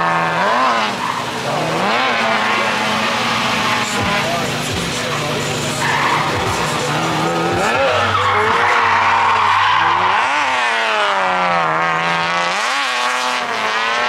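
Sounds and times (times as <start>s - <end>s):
car engine revving hard: 0.0s - 14.0s
tyres squealing: 0.0s - 14.0s.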